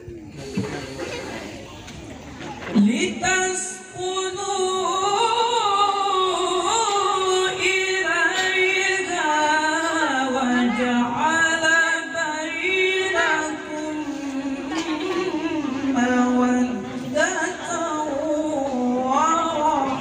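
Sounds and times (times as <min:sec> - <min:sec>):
man reciting melodically: 0:02.8 - 0:20.0.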